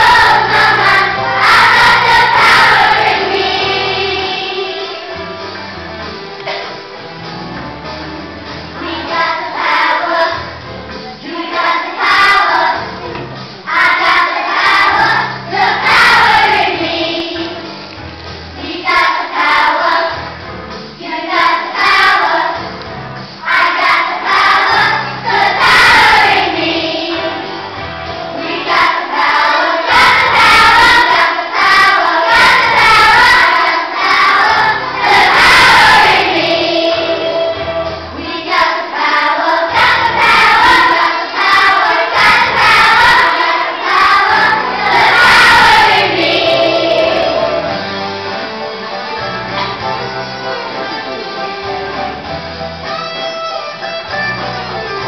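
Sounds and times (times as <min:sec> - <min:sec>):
children's choir singing: 0:00.0 - 0:07.1, 0:08.7 - 0:17.9, 0:18.6 - 0:22.8, 0:23.4 - 0:52.3.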